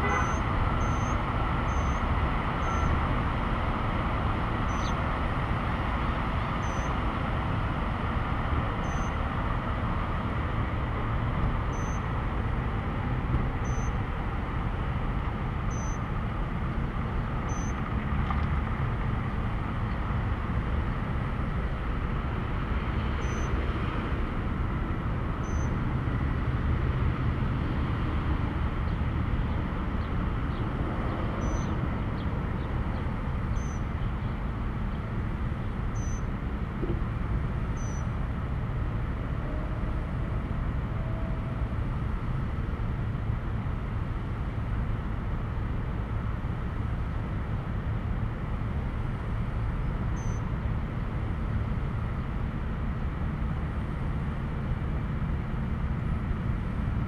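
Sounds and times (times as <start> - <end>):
low rumble of road traffic: 0.0 - 57.0.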